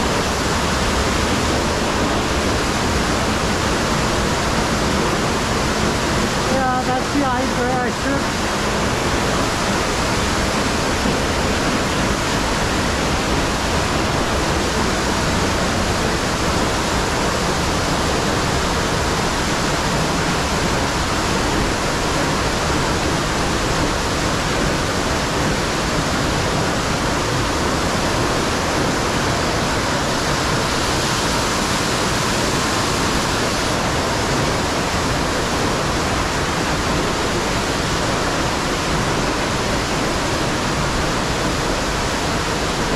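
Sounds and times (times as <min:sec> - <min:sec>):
fast-flowing water rushing: 0:00.0 - 0:42.9.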